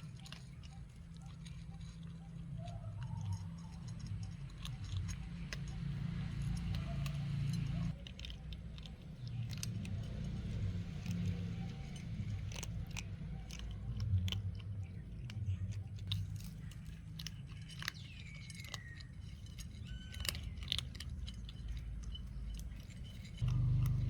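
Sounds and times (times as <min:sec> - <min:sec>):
steady low rumble: 0:00.0 - 0:18.4, 0:19.0 - 0:24.0
pets chewing food: 0:00.0 - 0:24.0.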